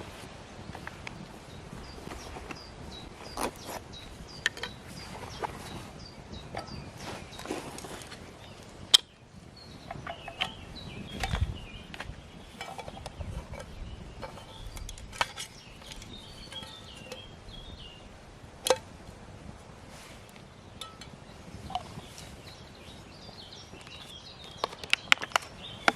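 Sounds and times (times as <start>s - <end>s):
small birds chirping and singing: 0.6s - 18.2s, 20.0s - 25.9s.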